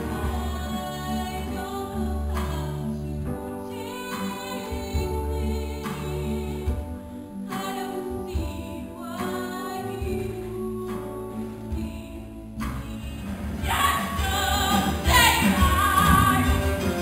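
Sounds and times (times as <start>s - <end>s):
guitar accompaniment: 0.0s - 17.0s
woman singing: 0.0s - 17.0s.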